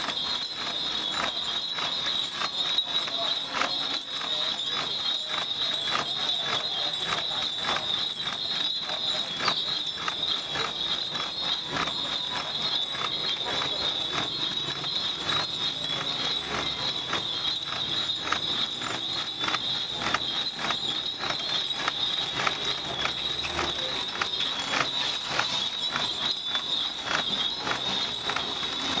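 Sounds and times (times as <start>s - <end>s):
wooden poles clacking and creaking: 0.0s - 29.0s.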